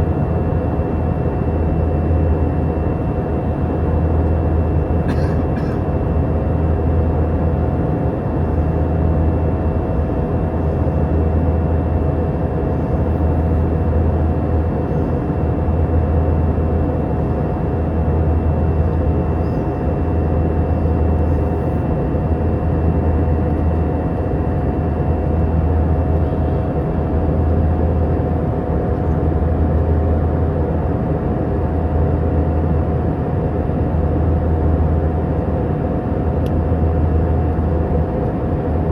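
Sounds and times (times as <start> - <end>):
aircraft cabin engine roar: 0.0 - 38.9
faint steady whine: 0.0 - 38.9
low pulsing hum: 0.0 - 38.9.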